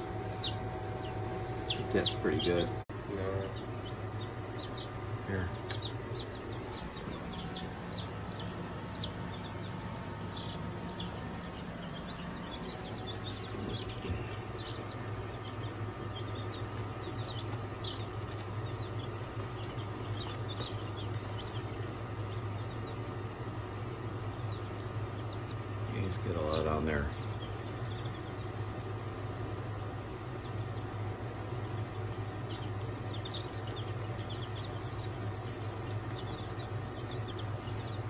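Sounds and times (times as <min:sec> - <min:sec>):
chicks peeping: 0:00.0 - 0:38.0
steady low hum: 0:00.0 - 0:38.0.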